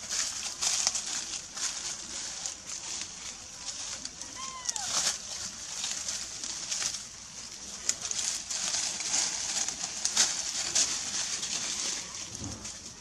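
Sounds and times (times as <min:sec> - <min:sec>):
twigs and leaves crackling: 0:00.0 - 0:13.0.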